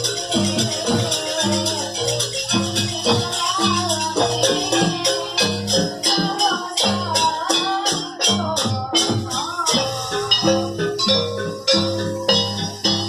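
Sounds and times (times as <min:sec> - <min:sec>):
held melodic notes: 0:00.0 - 0:13.0
rattling percussion beat: 0:00.0 - 0:13.0.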